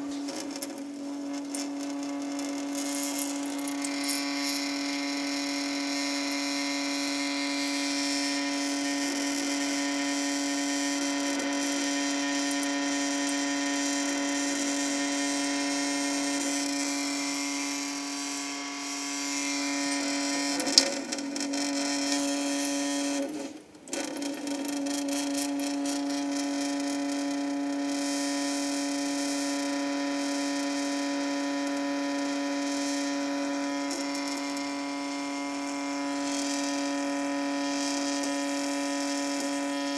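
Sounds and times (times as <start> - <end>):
tap running with humming drone: 0.0 - 39.9.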